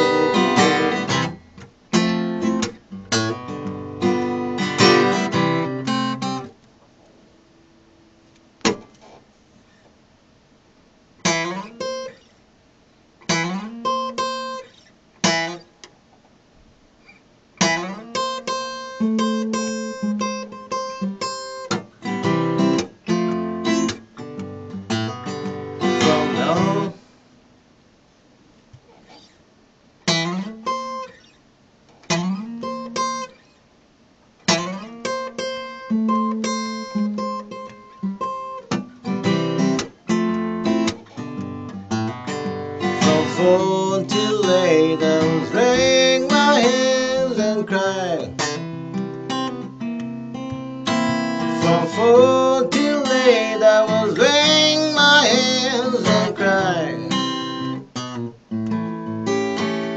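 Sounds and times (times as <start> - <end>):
acoustic guitar playing blues: 0.0 - 6.6, 11.2 - 12.3, 13.2 - 15.8, 17.6 - 27.1, 30.0 - 33.6, 34.4 - 59.9.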